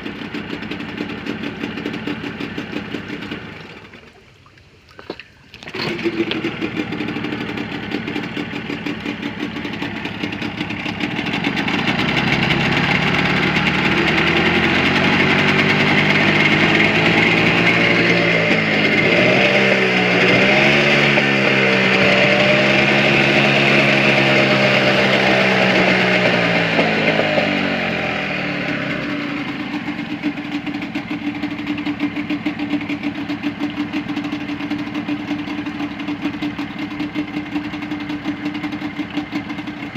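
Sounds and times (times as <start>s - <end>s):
motorcycle engine revving and idling: 0.0s - 3.9s, 5.7s - 39.9s.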